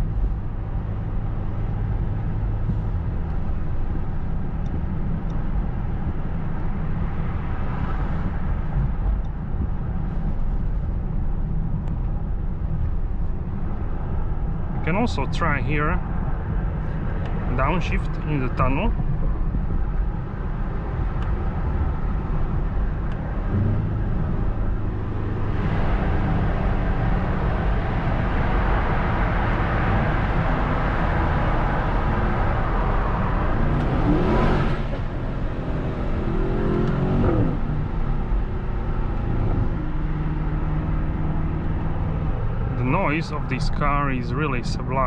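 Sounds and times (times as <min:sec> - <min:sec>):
car engine and exhaust revving: 0:00.0 - 0:45.0.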